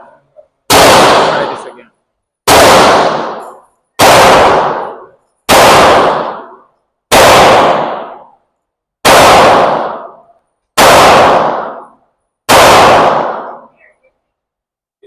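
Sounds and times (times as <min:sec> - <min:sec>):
pistol shots echoing indoors: 0:00.7 - 0:01.7, 0:02.4 - 0:13.7.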